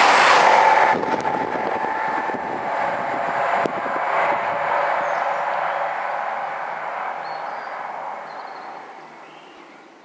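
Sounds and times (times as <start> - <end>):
diesel train rumble and rail noise: 0.0 - 10.0.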